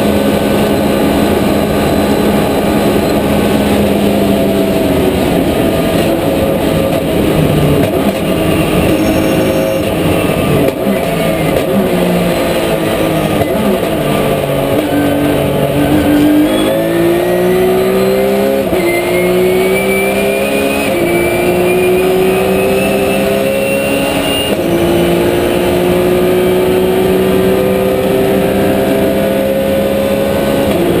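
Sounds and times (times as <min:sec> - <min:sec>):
race car engine revving: 0:00.0 - 0:31.0.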